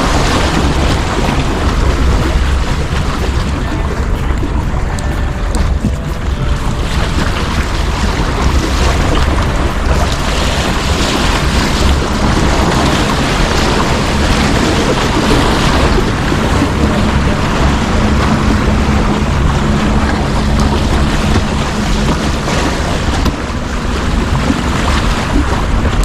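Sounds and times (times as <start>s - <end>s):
sea water washing: 0.0s - 26.0s
wind buffeting microphone: 0.0s - 26.0s.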